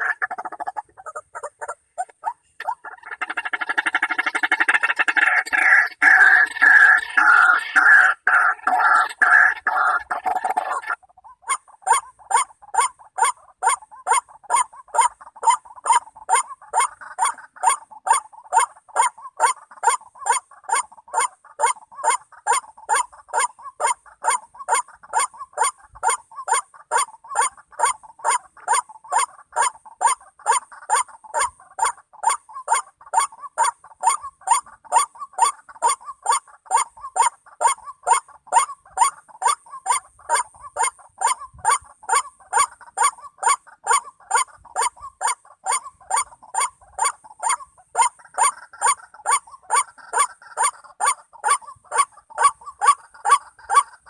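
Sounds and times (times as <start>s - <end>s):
waterhen calling: 0.0s - 54.0s.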